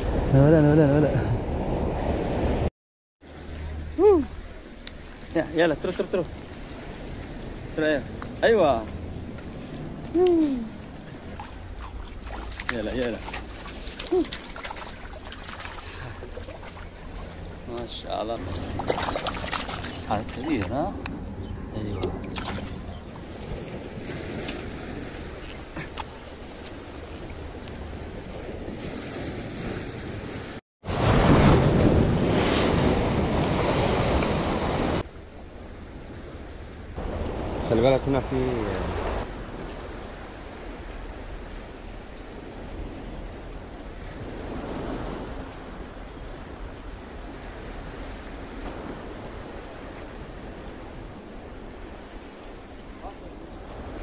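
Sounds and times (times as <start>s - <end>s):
sea surf: 0.0s - 54.0s.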